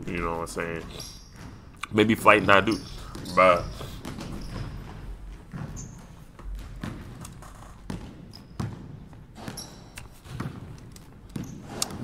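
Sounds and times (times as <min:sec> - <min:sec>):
basketball bouncing on wooden floor: 0:00.0 - 0:12.0.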